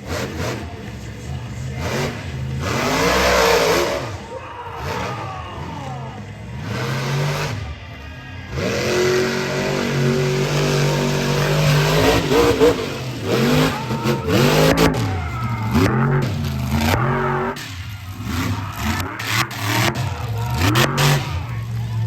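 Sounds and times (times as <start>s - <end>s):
monster truck engine revving: 0.0s - 22.0s.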